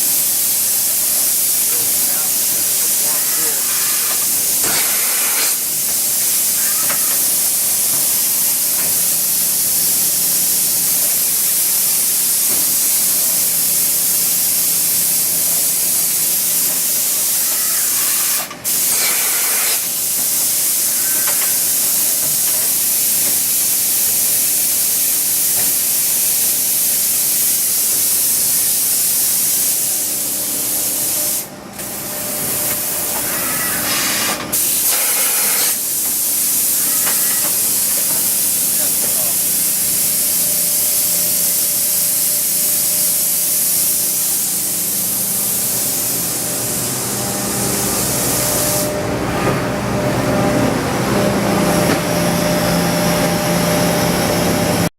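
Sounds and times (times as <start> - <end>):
high spraying hiss: 0.0 - 31.5, 32.4 - 49.0.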